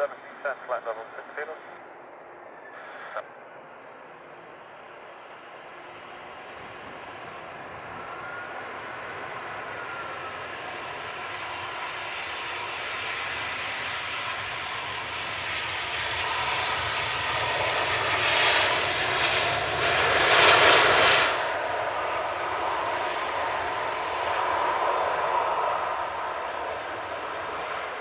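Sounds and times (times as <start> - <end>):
jet engines of airliner: 0.0 - 28.0.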